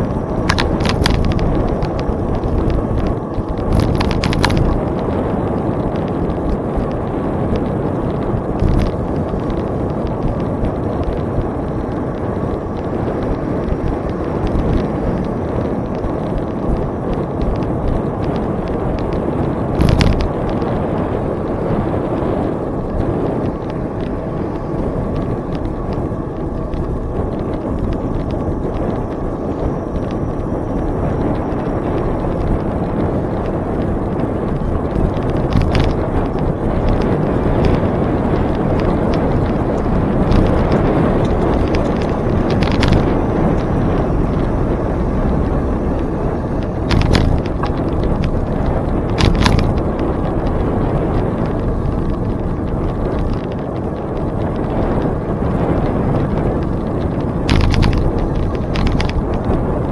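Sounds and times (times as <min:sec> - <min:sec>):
bicycle tyre noise on trail: 0:00.0 - 0:59.9
wind on microphone: 0:00.0 - 0:59.9.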